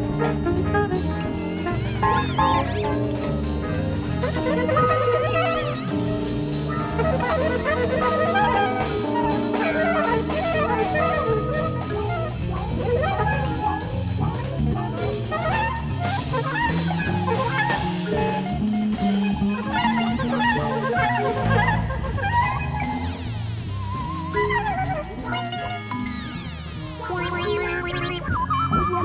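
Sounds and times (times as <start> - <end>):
jazz ensemble with drums and horns: 0.0 - 29.0.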